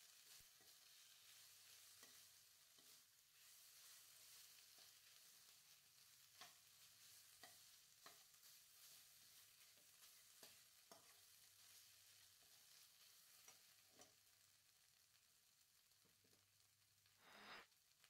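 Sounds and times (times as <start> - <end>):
faint sizzling in a wok: 0.0 - 18.0.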